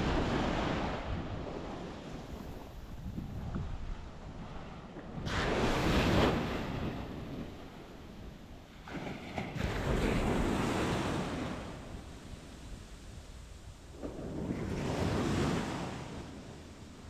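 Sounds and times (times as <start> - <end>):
sea waves breaking on beach: 0.0 - 17.0
wind on microphone: 0.0 - 17.0.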